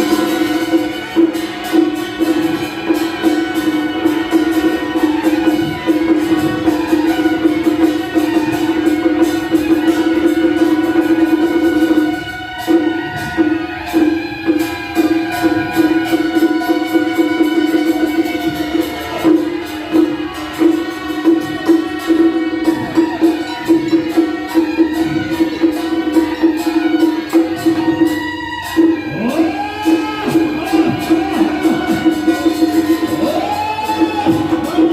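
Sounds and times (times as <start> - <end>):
percussion strokes: 0.0 - 34.9.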